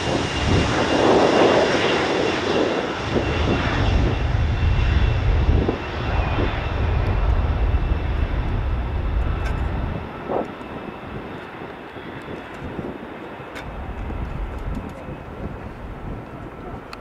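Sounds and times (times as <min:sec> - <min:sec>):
jet engines at takeoff power: 0:00.0 - 0:17.0.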